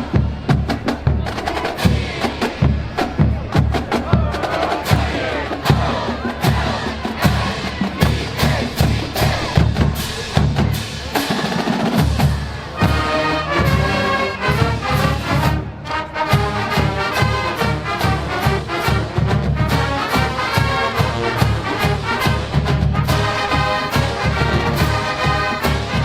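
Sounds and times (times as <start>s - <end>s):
snare and bass drums: 0.0s - 26.0s
wind section chords: 0.0s - 26.0s.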